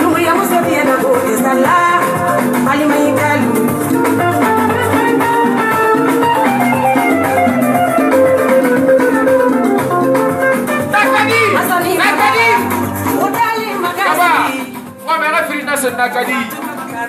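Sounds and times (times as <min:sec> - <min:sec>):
plucked guitar melody: 0:00.0 - 0:15.2
steady drum beat: 0:00.0 - 0:17.0.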